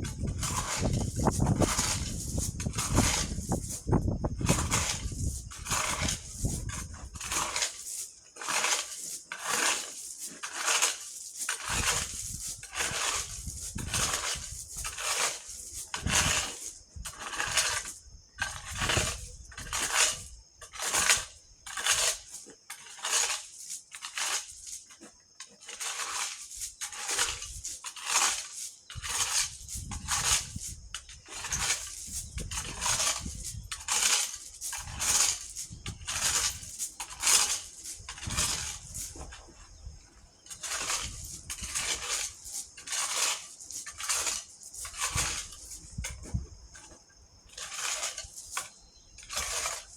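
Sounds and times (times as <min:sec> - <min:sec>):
tool scraping gravel and sand: 0:00.0 - 0:49.9.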